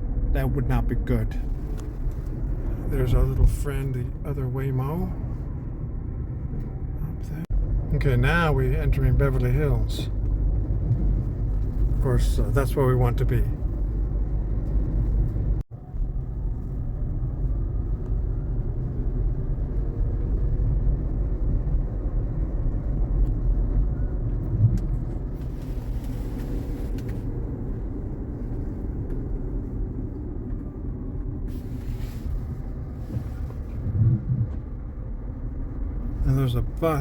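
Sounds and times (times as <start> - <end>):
tyre and road rumble: 0.0 - 37.0.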